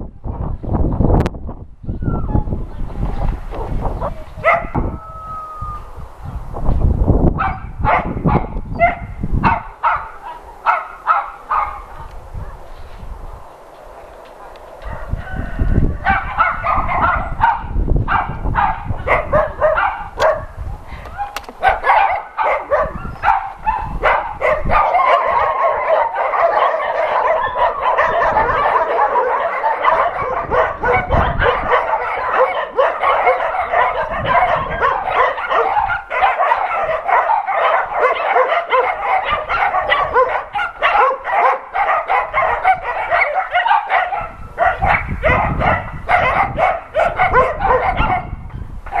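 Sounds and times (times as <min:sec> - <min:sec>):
dogs barking: 0:03.5 - 0:05.5, 0:07.4 - 0:12.7, 0:14.1 - 0:49.0.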